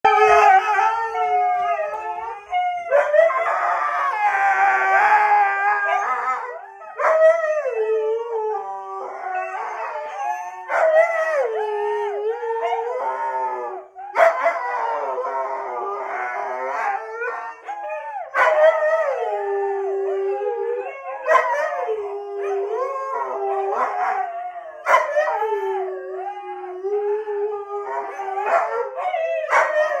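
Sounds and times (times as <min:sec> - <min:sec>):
huskies howling: 0:00.1 - 0:30.0.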